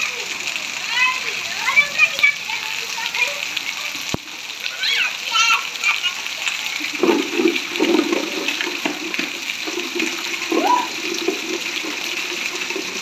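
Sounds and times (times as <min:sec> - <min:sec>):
children splashing in water: 0:00.0 - 0:13.0
heavy rain pouring: 0:00.0 - 0:13.0.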